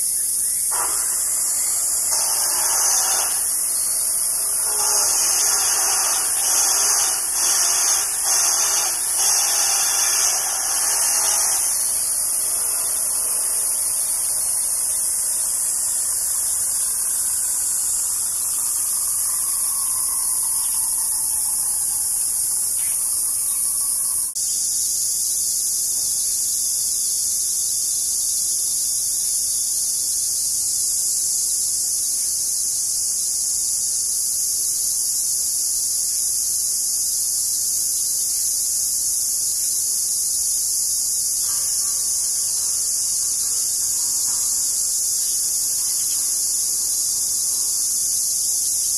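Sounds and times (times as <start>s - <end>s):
insects buzzing: 0.0s - 48.9s.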